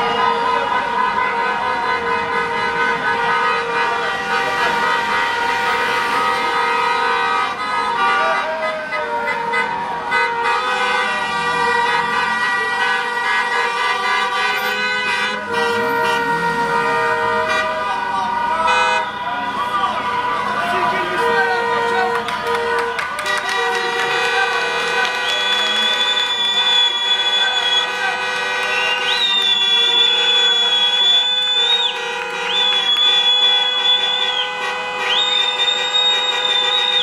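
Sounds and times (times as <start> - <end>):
car horns blasting: 0.0 - 37.0.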